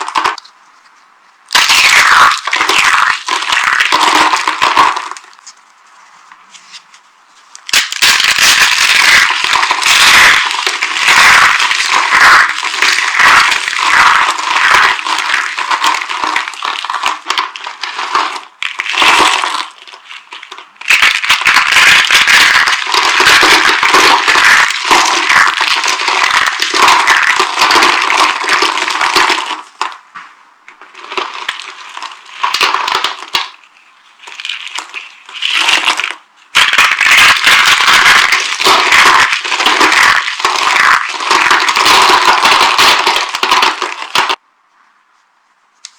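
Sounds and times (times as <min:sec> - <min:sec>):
dry soap crunching: 0:00.0 - 0:00.5, 0:01.5 - 0:05.6, 0:07.6 - 0:44.4.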